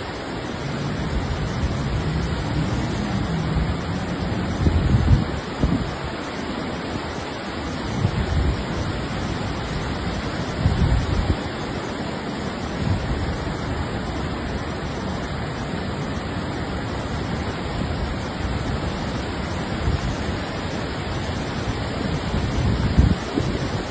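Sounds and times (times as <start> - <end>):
floodwater rushing: 0.0 - 23.9
wind buffeting microphone: 0.0 - 23.9.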